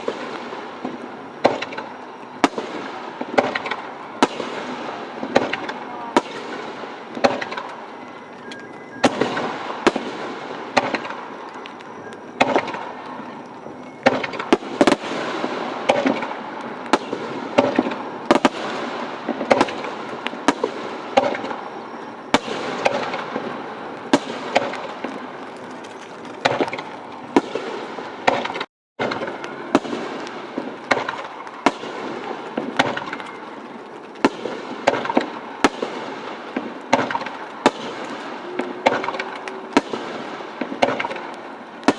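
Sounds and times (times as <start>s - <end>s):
firework shells bursting: 0.0s - 41.9s
fireworks crackling: 0.0s - 41.9s.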